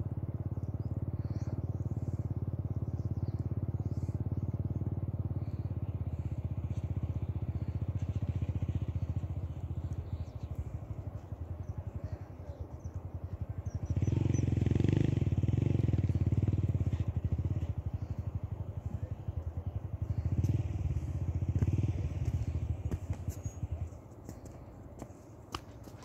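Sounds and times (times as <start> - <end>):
small engine chugging: 0.0 - 26.0.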